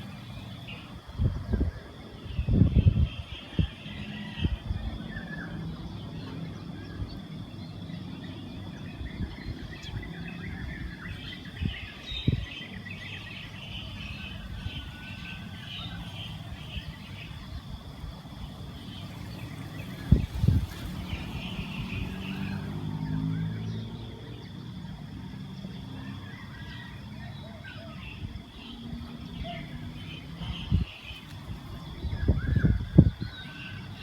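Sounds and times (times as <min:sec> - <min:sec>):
small birds chirping: 0:00.0 - 0:04.3, 0:04.9 - 0:34.0
distant traffic hum: 0:00.0 - 0:34.0.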